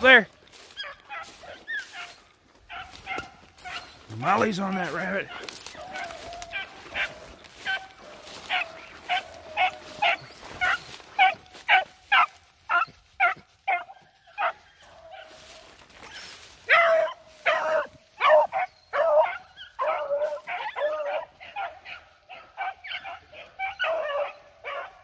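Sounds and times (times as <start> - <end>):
beagle baying: 0.0 - 25.0.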